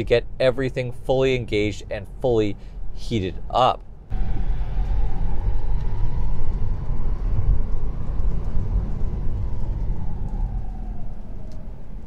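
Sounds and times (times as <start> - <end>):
road rumble and tyre noise: 0.0 - 12.0.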